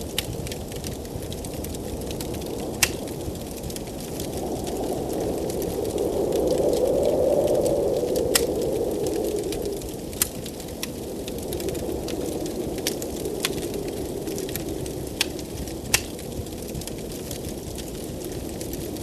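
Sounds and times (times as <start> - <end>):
wind howling: 0.0 - 19.0
wood fire crackling and popping: 0.0 - 19.0.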